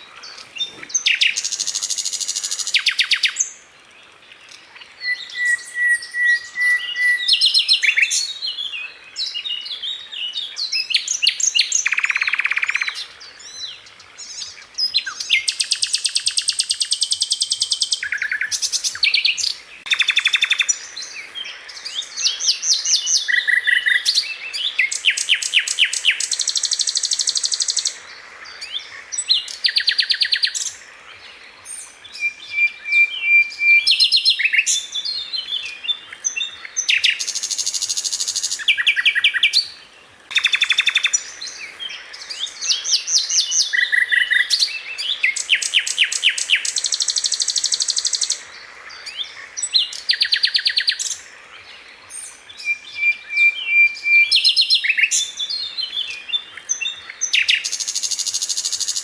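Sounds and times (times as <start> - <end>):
bird singing fast varied song: 0.0 - 59.0.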